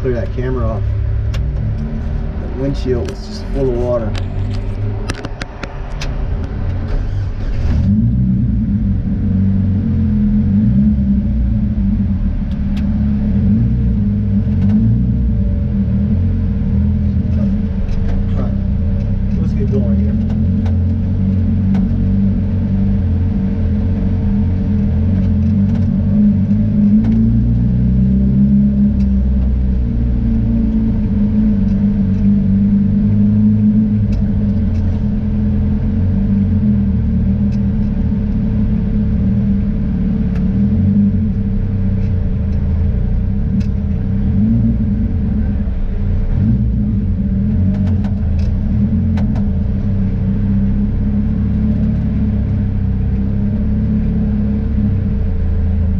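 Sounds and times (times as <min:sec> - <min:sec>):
car engine: 0:00.0 - 0:55.9
road rumble: 0:00.0 - 0:55.9
steady whine: 0:00.0 - 0:55.9.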